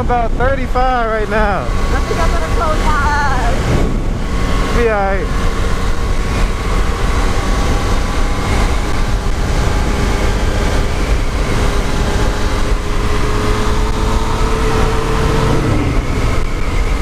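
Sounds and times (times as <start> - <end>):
motorcycle engine cruising: 0.0 - 17.0
wind rushing on microphone: 0.0 - 17.0.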